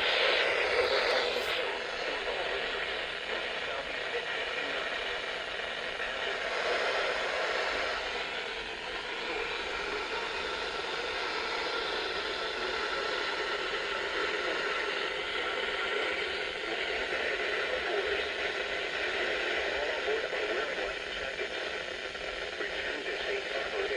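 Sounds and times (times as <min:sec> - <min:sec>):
radio static hiss: 0:00.0 - 0:23.9.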